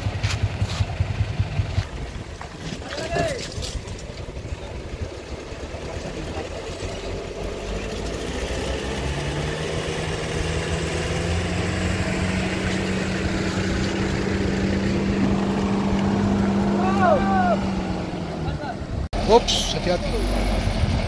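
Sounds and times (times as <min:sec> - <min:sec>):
truck engine under load: 0:00.0 - 0:21.0.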